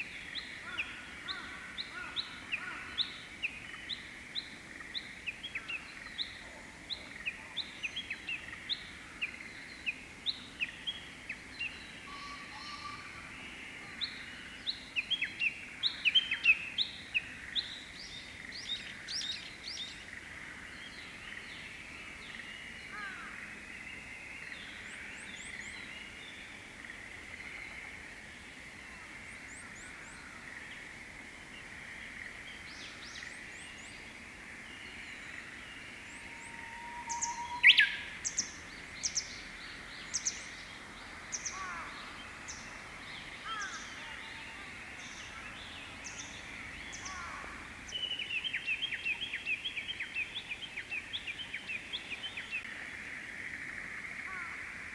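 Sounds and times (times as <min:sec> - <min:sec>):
bird singing: 0:00.0 - 0:54.9
outdoor background hiss: 0:00.0 - 0:54.9.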